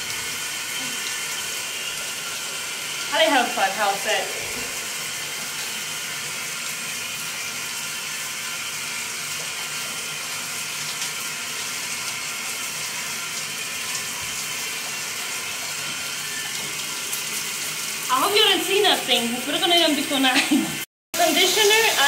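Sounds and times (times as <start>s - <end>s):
water running in a bathtub: 0.0s - 22.0s.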